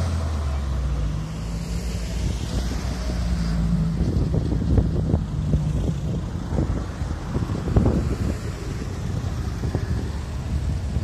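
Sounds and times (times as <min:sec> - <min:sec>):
cars driving slowly past: 0:00.0 - 0:11.0
wind buffeting microphone: 0:02.1 - 0:11.0.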